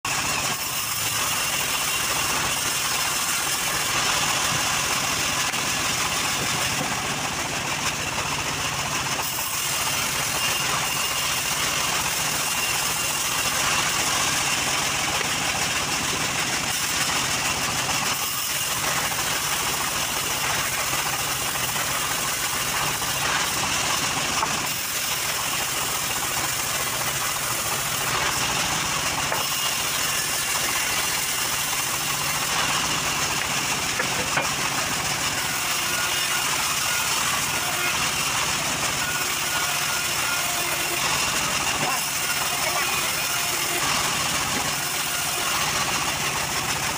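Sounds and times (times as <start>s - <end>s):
band saw cutting log: 0.1s - 46.9s.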